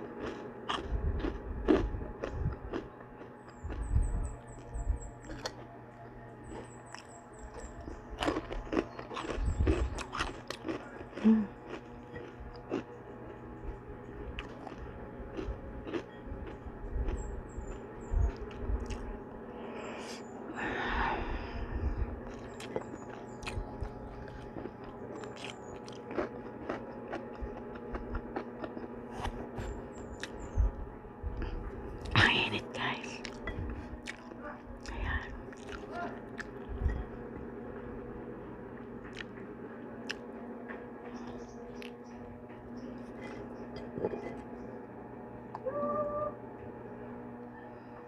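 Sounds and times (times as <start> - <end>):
crunching and chewing pork rinds: 0.0 - 19.2, 21.4 - 37.2, 39.0 - 39.4, 41.0 - 44.8.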